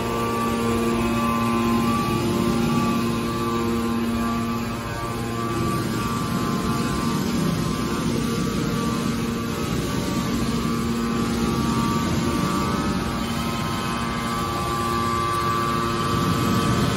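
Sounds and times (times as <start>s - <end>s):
baler motor droning with whine: 0.0s - 16.9s.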